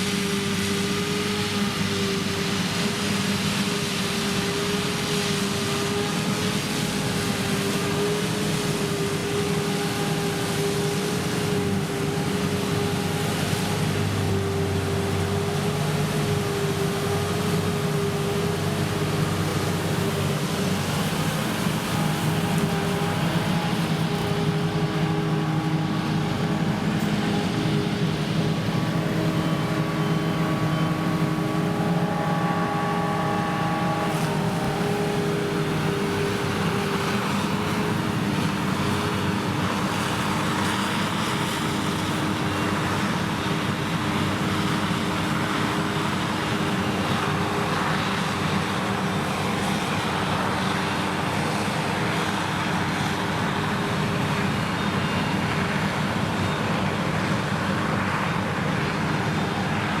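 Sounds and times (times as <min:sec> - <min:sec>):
harvester engine hum: 0:00.0 - 1:00.0.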